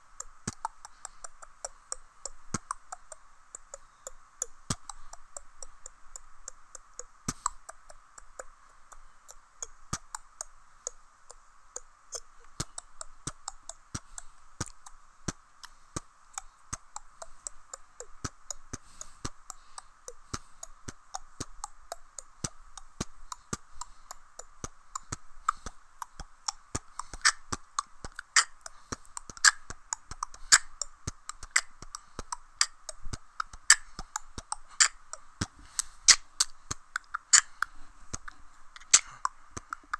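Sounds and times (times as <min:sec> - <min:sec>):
person beatboxing: 0:00.0 - 0:39.9.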